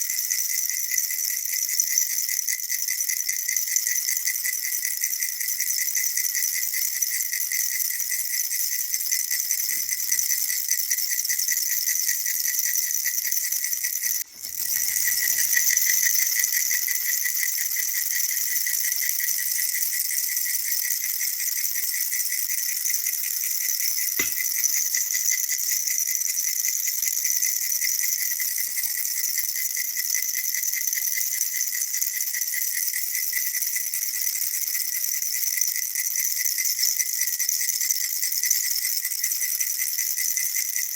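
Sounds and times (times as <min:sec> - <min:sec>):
baby rattle shaken: 0:00.0 - 0:40.9.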